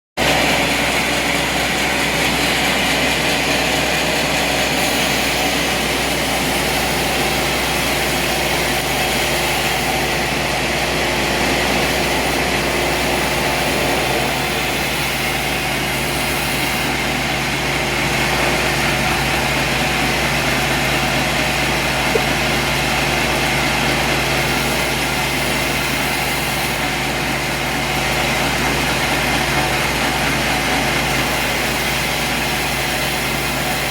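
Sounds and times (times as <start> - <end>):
sawmill machinery drone: 0.2 - 33.9.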